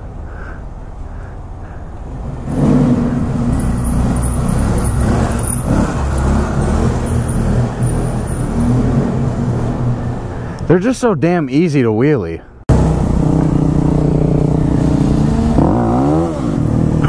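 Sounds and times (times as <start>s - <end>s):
motorcycle engines running: 1.1s - 10.9s, 12.7s - 17.0s.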